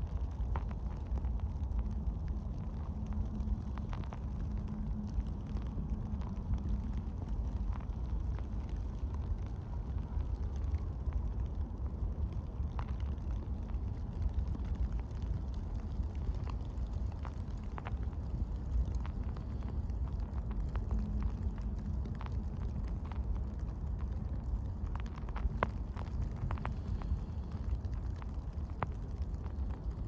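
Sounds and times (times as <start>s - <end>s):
blizzard wind buffeting microphone: 0.0s - 30.0s
faint ticks and crunches: 0.0s - 30.0s.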